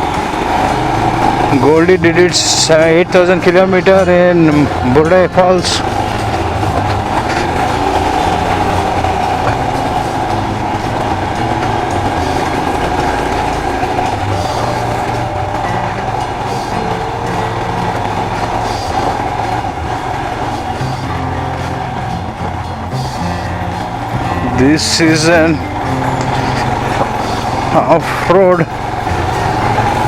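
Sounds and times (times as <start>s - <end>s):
motorcycle engine running: 0.0s - 30.0s
road noise: 0.0s - 30.0s.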